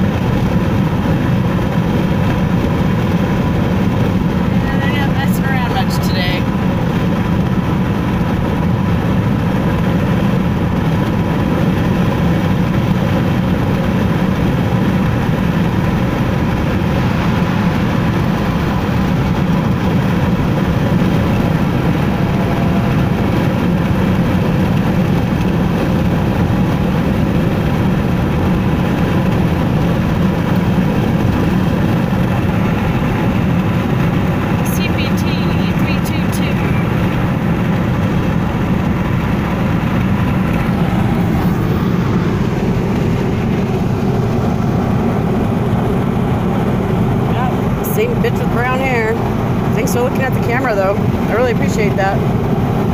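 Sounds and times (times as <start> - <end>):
car tyres and engine rumble: 0.0 - 52.9.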